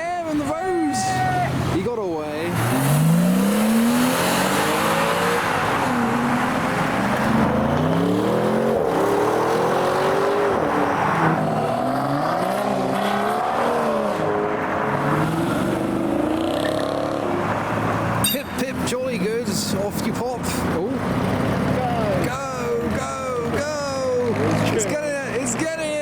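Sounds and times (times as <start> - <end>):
car engines accelerating: 0.0 - 26.0
road noise: 0.0 - 26.0.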